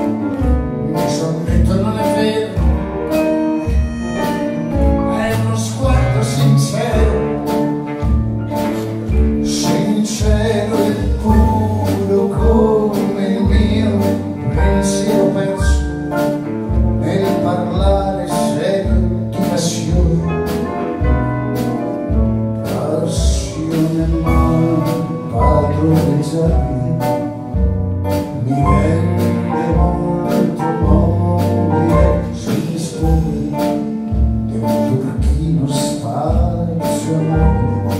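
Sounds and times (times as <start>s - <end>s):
man singing: 0.0s - 7.9s, 8.6s - 21.1s, 22.2s - 37.9s
small band playing live: 0.0s - 37.9s.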